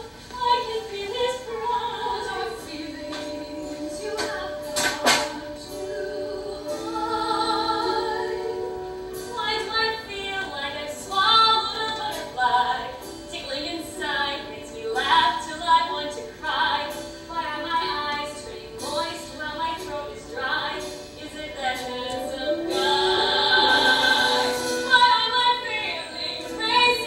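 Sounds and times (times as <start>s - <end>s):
women singing: 0.0s - 27.0s
instrumental accompaniment: 1.0s - 27.0s.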